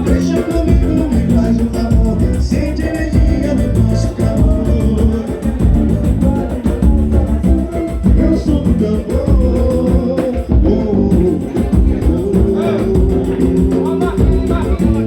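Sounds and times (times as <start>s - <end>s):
drums: 0.0s - 15.0s
person singing: 0.0s - 15.0s.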